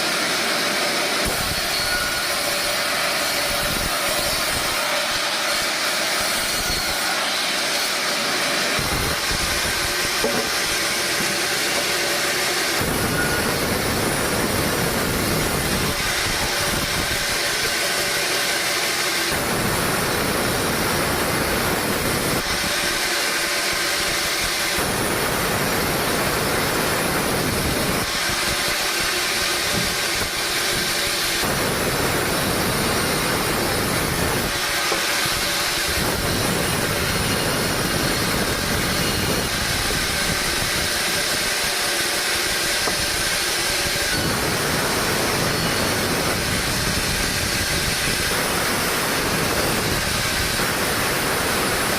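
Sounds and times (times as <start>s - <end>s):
saw cutting through logs: 0.0s - 51.9s
sawmill saw running: 0.0s - 51.9s.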